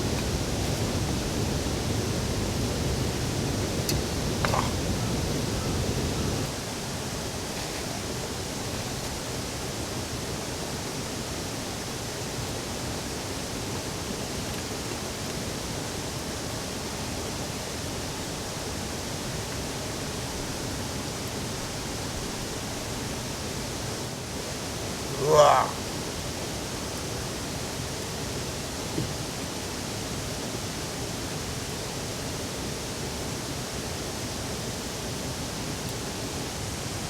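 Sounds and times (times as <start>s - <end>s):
heavy rain hissing: 0.0s - 31.0s.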